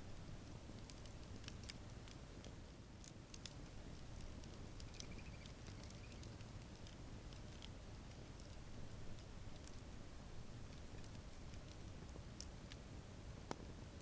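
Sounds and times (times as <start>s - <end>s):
campfire crackling and popping: 0.0s - 13.7s.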